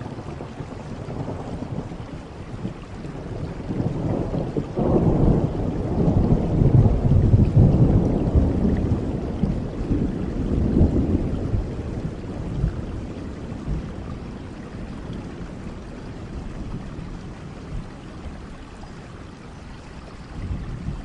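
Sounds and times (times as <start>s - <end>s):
rolling thunder: 0.0s - 18.9s, 20.2s - 21.0s
steady rainfall: 0.0s - 21.0s.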